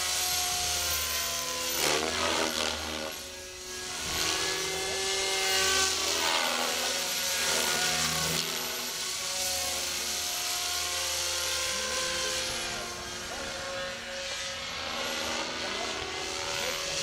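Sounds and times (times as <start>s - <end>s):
model helicopter motor whine: 0.0s - 17.0s.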